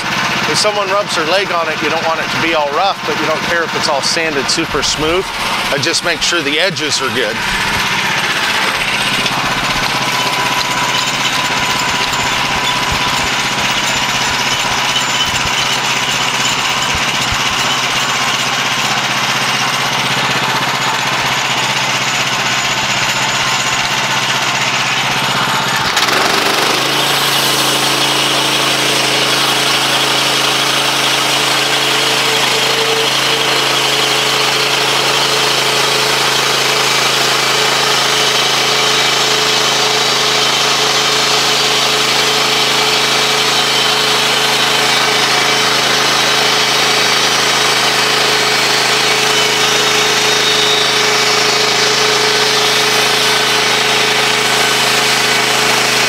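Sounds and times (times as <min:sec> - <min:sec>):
bandsaw mill engine and blade: 0:00.0 - 0:56.0.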